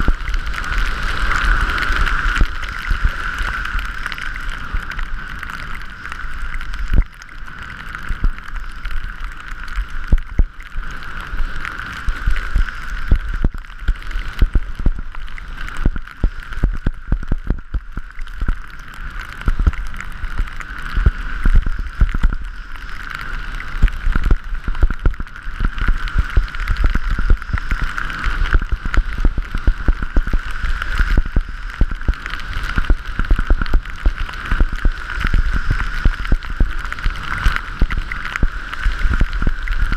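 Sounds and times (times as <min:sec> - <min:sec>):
skis sliding over snow: 0:00.0 - 0:39.9.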